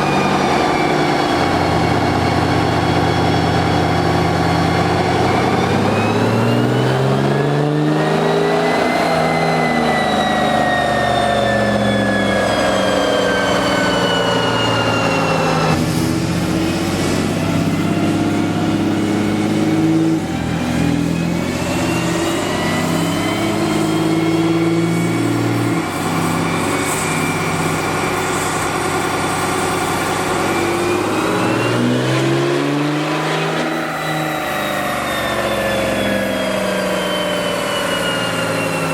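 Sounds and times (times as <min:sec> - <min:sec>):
diesel engine revving under load: 0:00.0 - 0:38.9.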